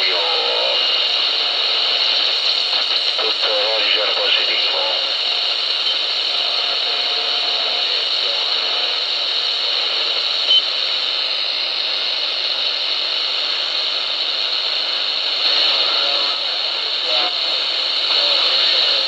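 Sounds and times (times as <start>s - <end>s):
radio static hissing: 0.0s - 19.0s.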